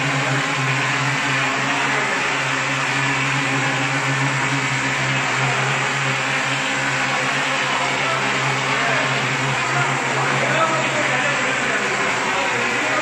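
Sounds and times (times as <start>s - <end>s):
motor hum: 0.0s - 13.0s.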